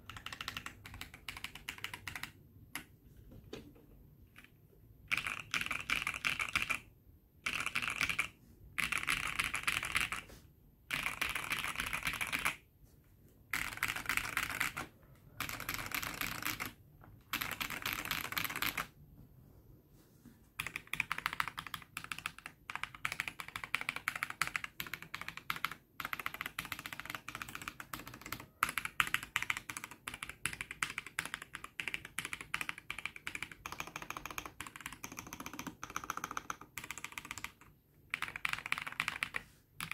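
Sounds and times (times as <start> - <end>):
mechanical keyboard typing: 0.0 - 12.7, 13.4 - 19.0, 20.6 - 39.9.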